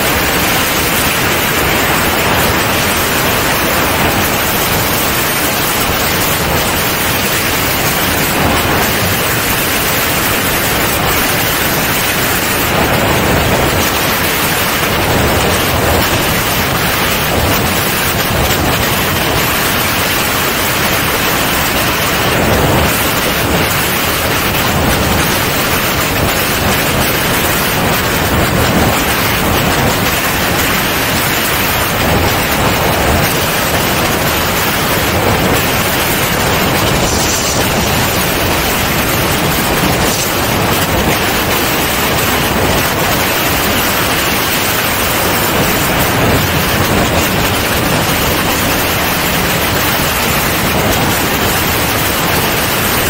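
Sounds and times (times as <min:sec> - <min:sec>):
wind rushing past aircraft: 0:00.0 - 0:51.6.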